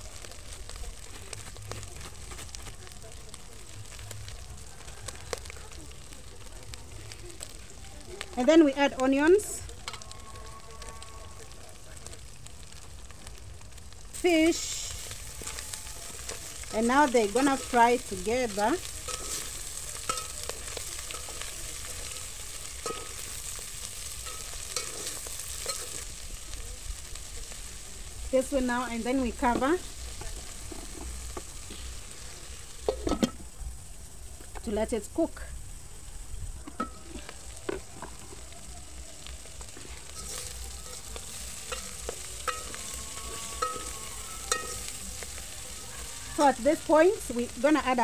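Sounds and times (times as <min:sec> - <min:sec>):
fish and onions sizzling in oil: 0:00.0 - 0:48.0.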